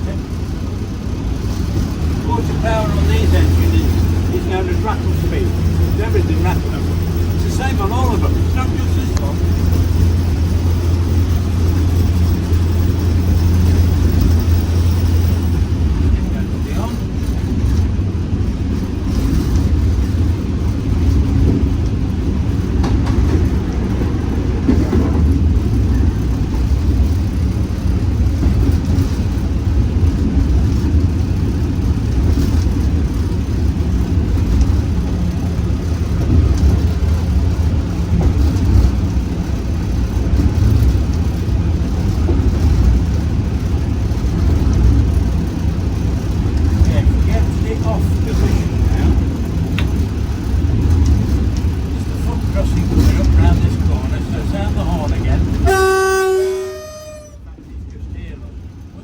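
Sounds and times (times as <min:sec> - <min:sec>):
diesel locomotive engine rumbling: 0:00.0 - 0:59.0.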